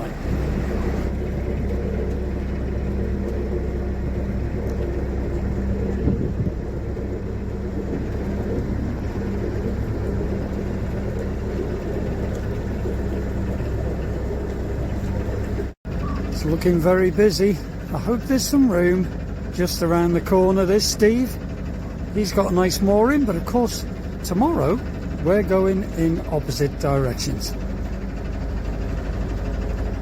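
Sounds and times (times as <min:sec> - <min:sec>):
diesel engine humming: 0:00.0 - 0:30.0.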